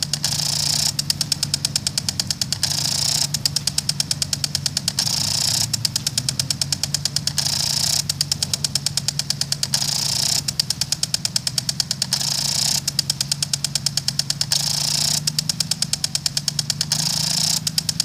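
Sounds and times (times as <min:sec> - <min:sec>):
impact sprinkler clicking: 0:00.0 - 0:18.0
water spray hiss: 0:00.0 - 0:18.0.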